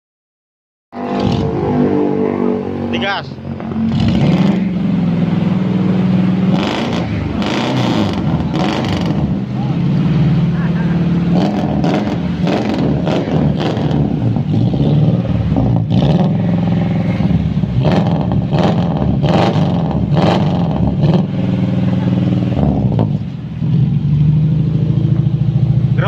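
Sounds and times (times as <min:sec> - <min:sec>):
car engine idling and revving: 0:00.9 - 0:26.0.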